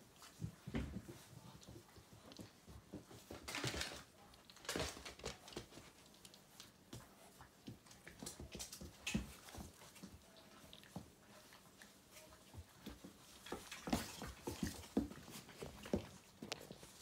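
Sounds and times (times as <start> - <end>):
puppies scuffling on a rug: 0.0 - 17.0.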